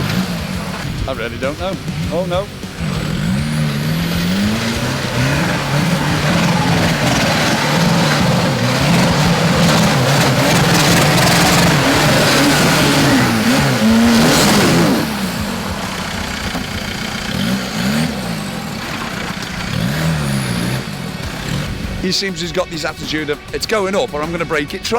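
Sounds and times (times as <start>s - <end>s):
truck engine revving: 0.0s - 24.9s.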